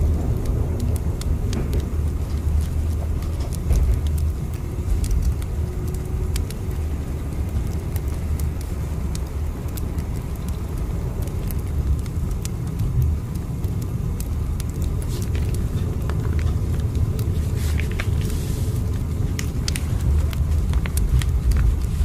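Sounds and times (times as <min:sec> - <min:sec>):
faint clicks and crackles: 0:00.0 - 0:22.0
train rumbling: 0:00.0 - 0:22.0.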